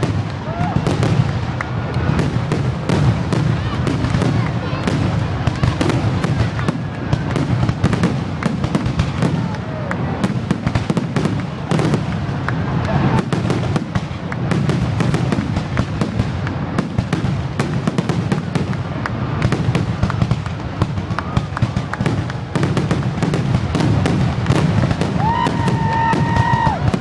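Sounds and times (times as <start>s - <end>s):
fireworks exploding and crackling: 0.0s - 27.0s.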